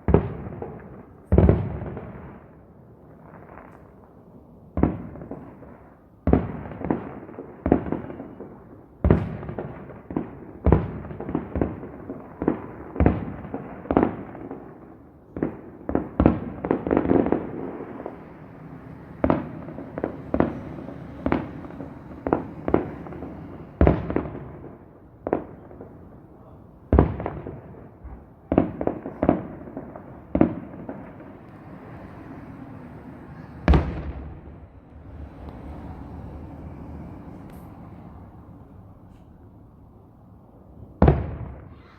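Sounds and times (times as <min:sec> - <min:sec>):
fireworks bursting with echo: 0:00.0 - 0:04.0, 0:04.7 - 0:39.8, 0:40.9 - 0:41.9.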